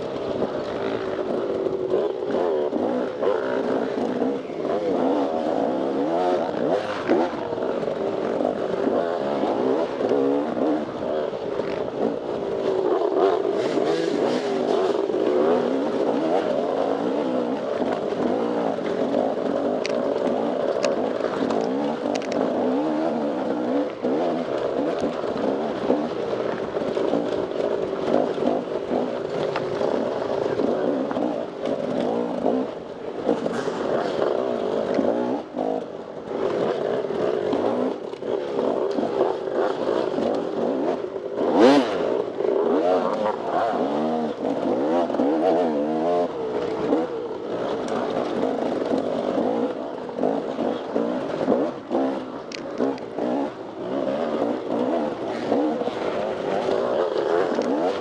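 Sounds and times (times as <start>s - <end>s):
dirt bike engine revving: 0.0s - 58.0s
sharp clicks and clatter: 0.0s - 58.0s.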